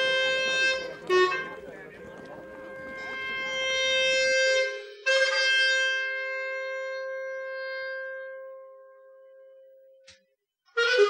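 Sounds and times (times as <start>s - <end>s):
woodwind playing long notes: 0.0s - 9.9s, 10.7s - 11.0s.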